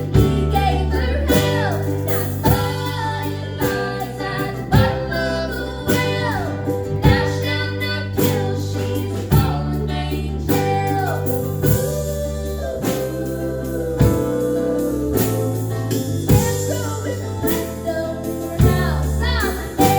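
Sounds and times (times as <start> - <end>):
guitar: 0.0 - 19.9
person singing: 0.0 - 19.9
sustained bass line: 0.0 - 19.9.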